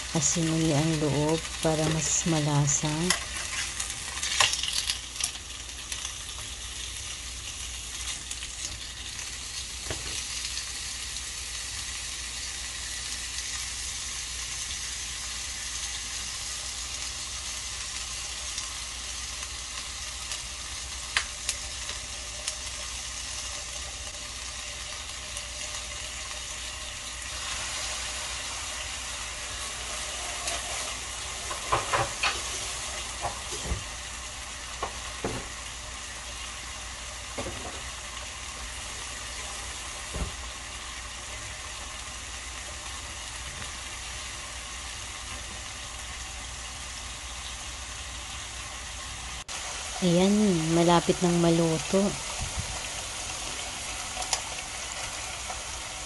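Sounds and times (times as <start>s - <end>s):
meat sizzling on grill pan: 0.0s - 56.0s.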